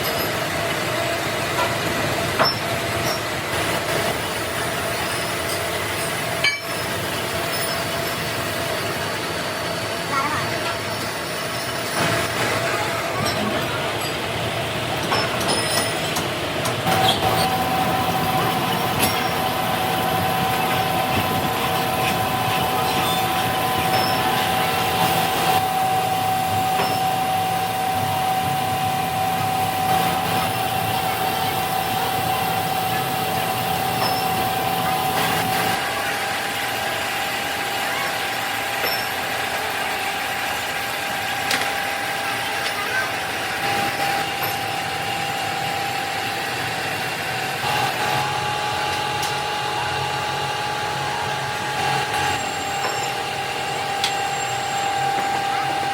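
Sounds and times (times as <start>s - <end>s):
factory machinery din: 0.0s - 55.9s
machine whine: 0.0s - 55.9s.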